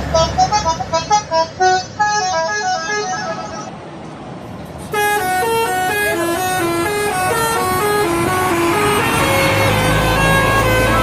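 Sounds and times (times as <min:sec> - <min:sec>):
multi-tone air horn melody: 0:00.1 - 0:03.7, 0:04.9 - 0:11.0.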